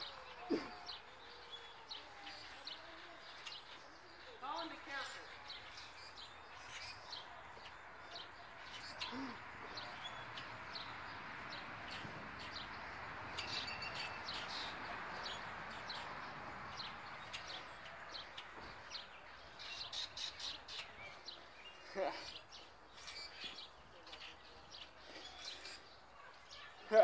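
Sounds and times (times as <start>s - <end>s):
outdoor background rush: 0.0s - 27.0s
small birds chirping: 0.0s - 27.0s.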